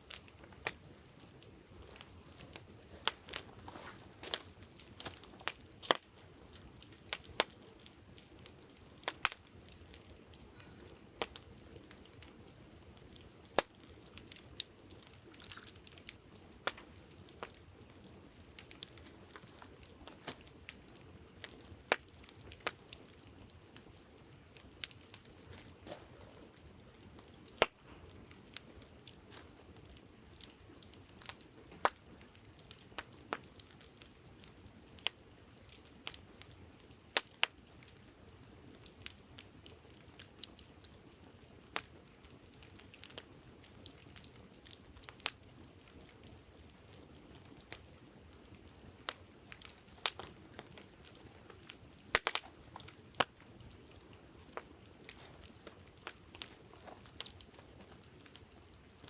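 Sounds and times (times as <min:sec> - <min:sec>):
campfire crackling and popping: 0:00.0 - 0:59.0
faint steady hiss: 0:00.0 - 0:59.0.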